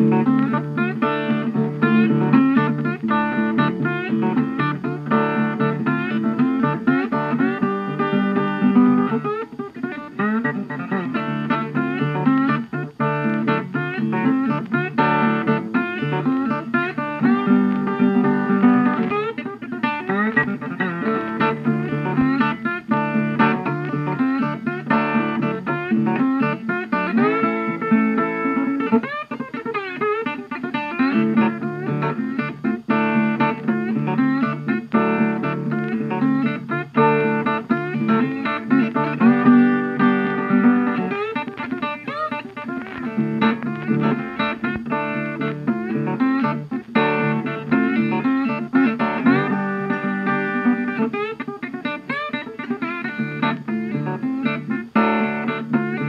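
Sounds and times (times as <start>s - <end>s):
plucked guitar music: 0.0s - 56.0s.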